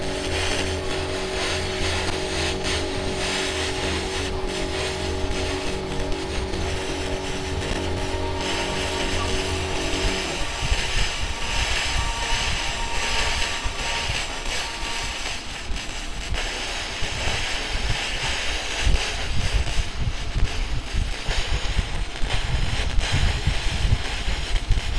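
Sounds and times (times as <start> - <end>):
laser cleaner hissing: 0.0 - 24.9
low uneven rumble: 0.0 - 24.9.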